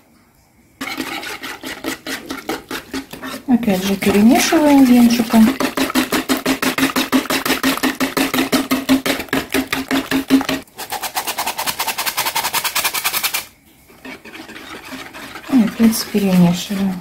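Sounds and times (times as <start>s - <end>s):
whisk rattling in plastic bowl: 0.8s - 17.0s.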